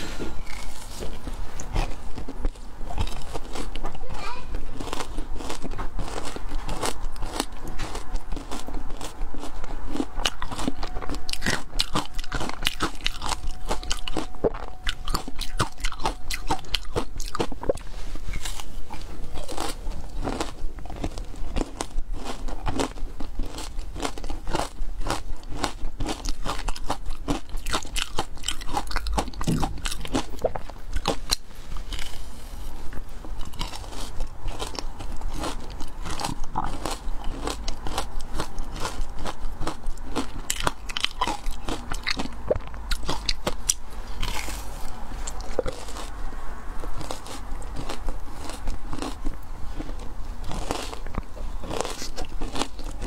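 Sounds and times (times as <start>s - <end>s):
person crunching frozen ice: 0.0s - 46.2s, 46.8s - 53.0s.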